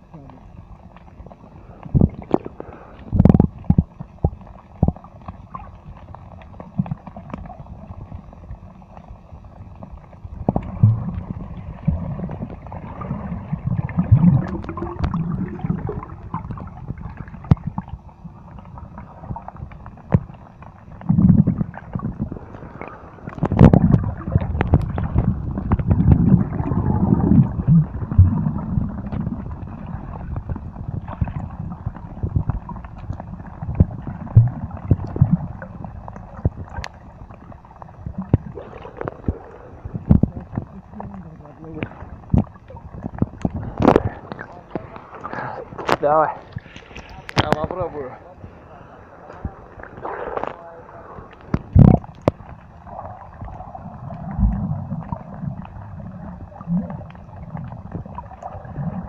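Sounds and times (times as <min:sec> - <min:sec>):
low irregular rumbles: 0:00.0 - 0:59.0
water sloshing and gurgling: 0:00.0 - 0:59.0.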